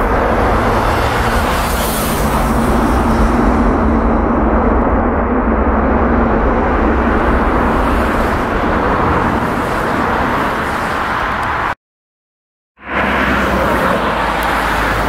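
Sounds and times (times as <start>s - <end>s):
jet engines running: 0.0s - 11.8s, 12.8s - 15.0s.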